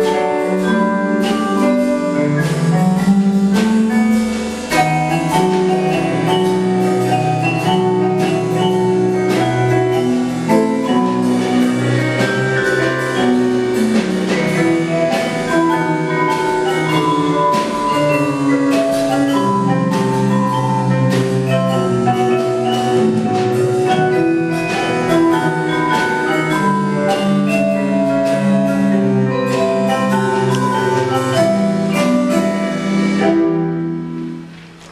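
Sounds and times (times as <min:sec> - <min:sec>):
drum kit with cymbals: 0:00.0 - 0:34.9
marimba: 0:00.0 - 0:34.9
piano: 0:00.0 - 0:34.9
vibraphone: 0:00.0 - 0:34.9.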